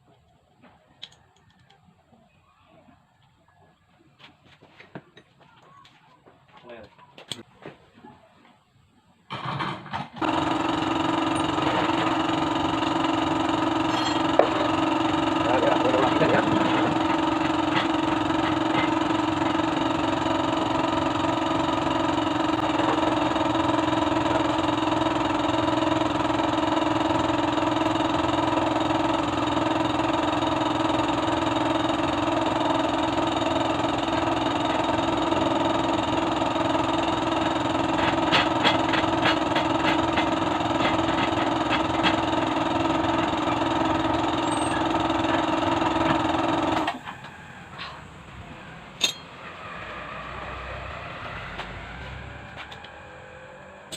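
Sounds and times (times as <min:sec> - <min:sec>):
motorcycle engine starting and running: 0:09.3 - 0:53.9.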